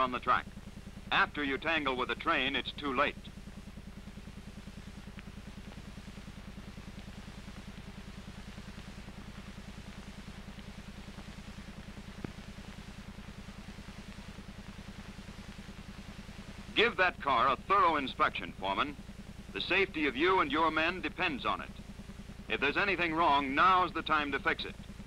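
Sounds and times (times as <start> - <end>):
low pulsing soundtrack hum: 0.0 - 25.0.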